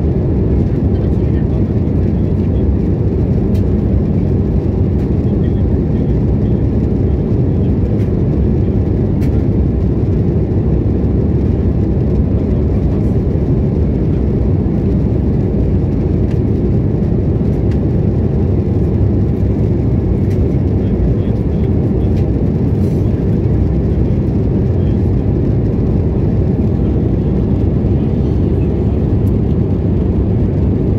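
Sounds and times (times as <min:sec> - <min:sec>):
aircraft cabin engine noise: 0:00.0 - 0:30.9.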